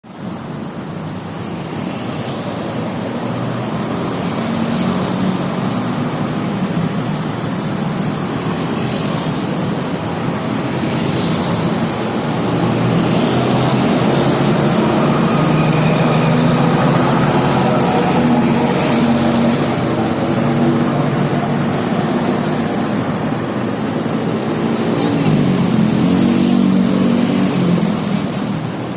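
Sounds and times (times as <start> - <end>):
vehicles passing: 0.1 - 28.9.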